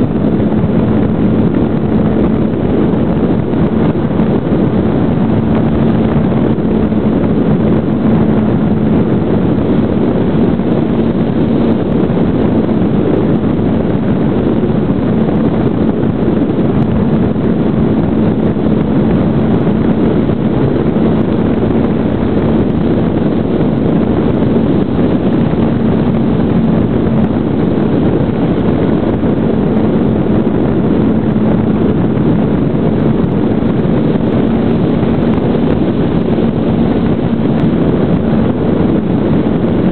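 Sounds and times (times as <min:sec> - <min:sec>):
electric motor and propeller hum: 0:00.0 - 0:39.9
wind rush on microphone: 0:00.0 - 0:39.9.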